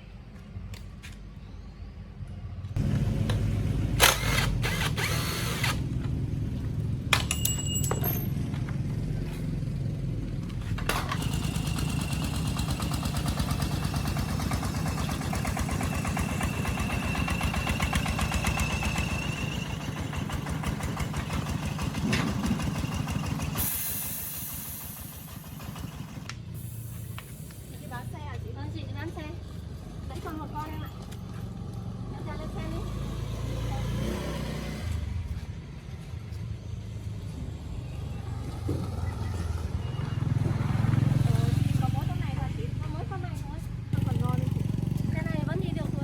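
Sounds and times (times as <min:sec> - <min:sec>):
vehicle engine running: 0:02.8 - 0:34.2, 0:34.8 - 0:46.0.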